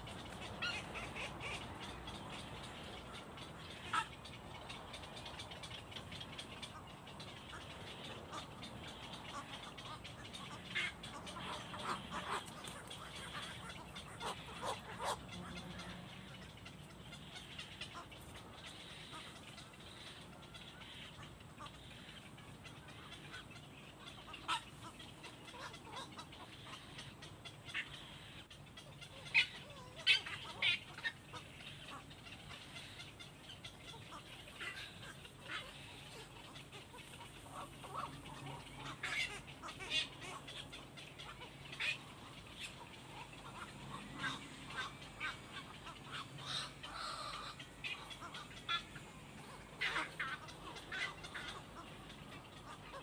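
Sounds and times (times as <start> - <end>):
low steady background noise: 0.0 - 53.0.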